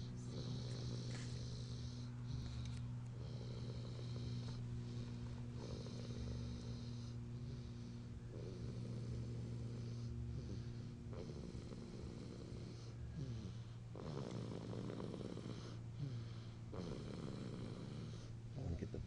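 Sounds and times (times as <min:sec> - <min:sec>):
baby snoring: 0:00.0 - 0:19.0
steady low hum: 0:00.0 - 0:19.0.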